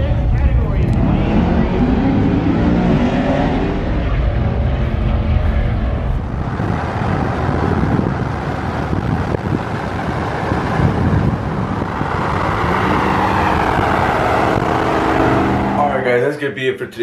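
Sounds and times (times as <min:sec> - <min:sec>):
truck engine: 0:00.0 - 0:16.2
wind and road noise: 0:00.0 - 0:16.3.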